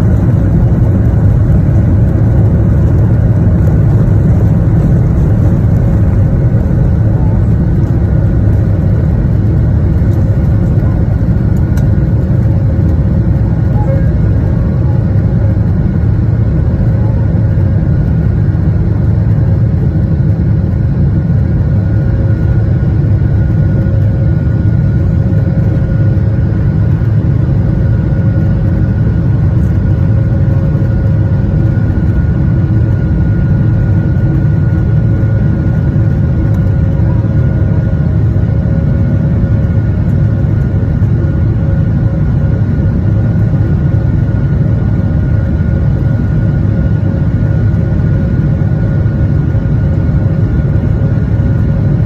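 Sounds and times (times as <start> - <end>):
jet engines rumbling and whining: 0.0 - 52.0.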